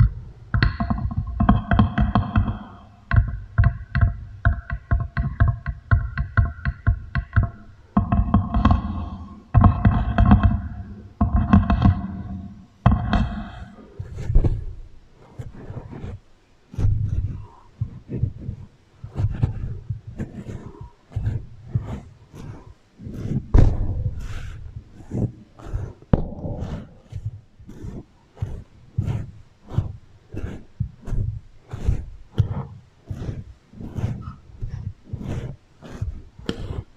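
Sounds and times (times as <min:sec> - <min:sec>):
echoing wrap taps: 0:00.0 - 0:36.9.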